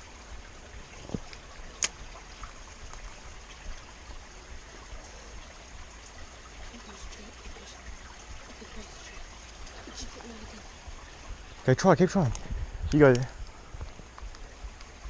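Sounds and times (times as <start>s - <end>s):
stream water running: 0.0s - 15.0s.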